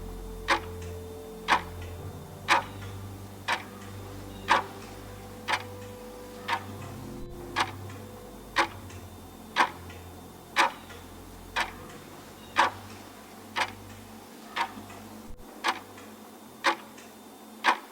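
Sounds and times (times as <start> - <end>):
clock ticking: 0.0 - 17.9.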